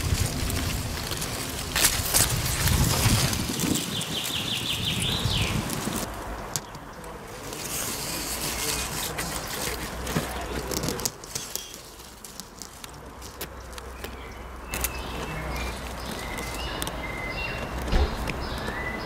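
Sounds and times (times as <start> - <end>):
leaves and twigs rustling: 0.0 - 19.0.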